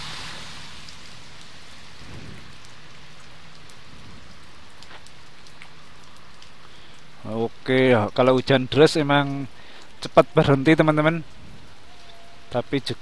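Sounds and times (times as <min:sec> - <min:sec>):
heavy rain on asphalt road: 0:00.0 - 0:13.0
sharp ticks of raindrops: 0:00.0 - 0:13.0.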